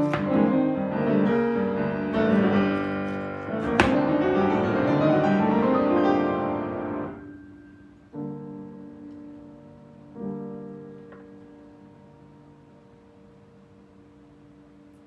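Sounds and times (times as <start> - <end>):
piano music: 0.0 - 13.6.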